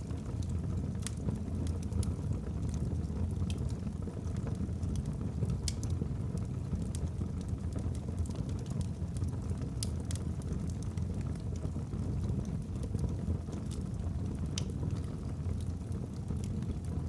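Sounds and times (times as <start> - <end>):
logs burning and crackling: 0.0 - 17.0.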